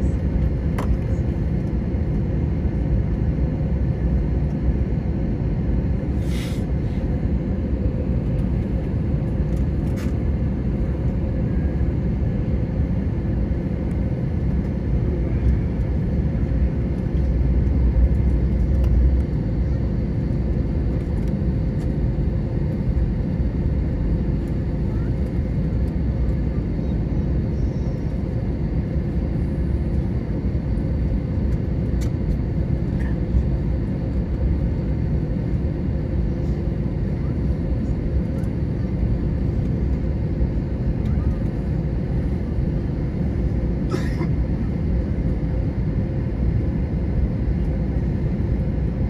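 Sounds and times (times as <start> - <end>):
engine and wheels rumble: 0.0 - 48.2.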